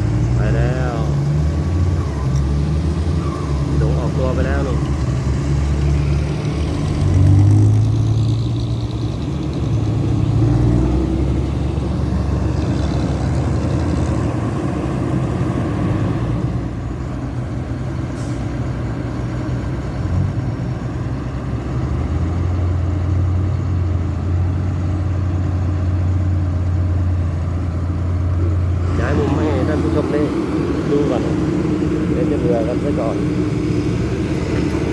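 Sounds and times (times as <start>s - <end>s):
heavy diesel engines running: 0.0s - 34.9s.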